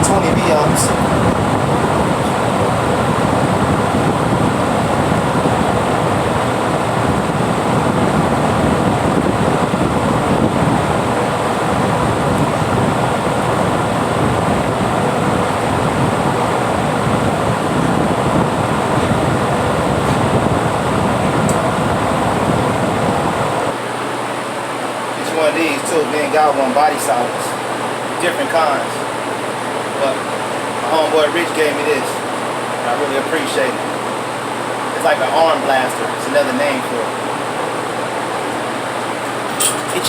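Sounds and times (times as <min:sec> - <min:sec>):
electric fan running: 0:00.0 - 0:40.0.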